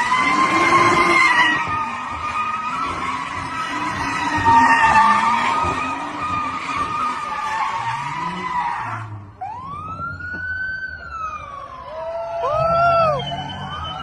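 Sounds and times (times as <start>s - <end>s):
siren wailing and yelping: 0.0s - 14.0s.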